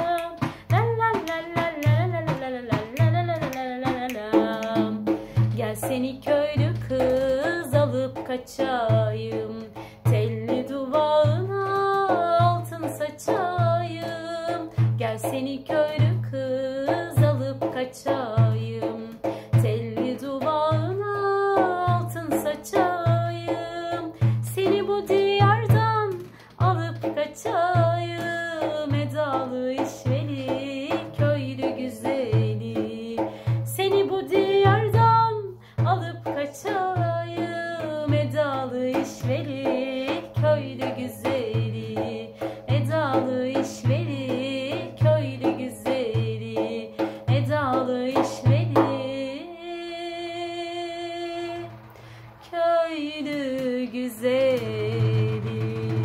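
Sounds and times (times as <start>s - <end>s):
frame drum beating: 0.0s - 49.4s, 54.8s - 56.0s
woman singing folk melody: 0.0s - 56.0s.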